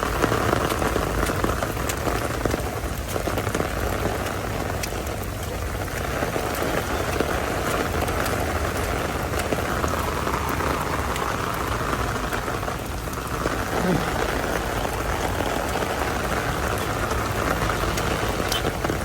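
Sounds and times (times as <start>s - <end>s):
heavy rain hiss: 0.0s - 19.0s
raindrops ticking: 0.0s - 19.0s.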